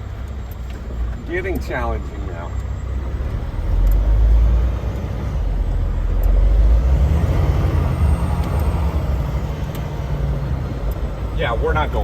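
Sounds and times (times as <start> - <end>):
truck engine rumbling under load: 0.0 - 12.0.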